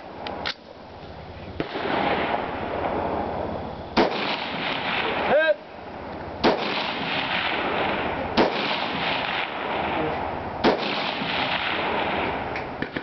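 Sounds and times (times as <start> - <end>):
background hiss: 0.0 - 13.0
rifle shots cracking: 1.6 - 3.3, 3.9 - 13.0.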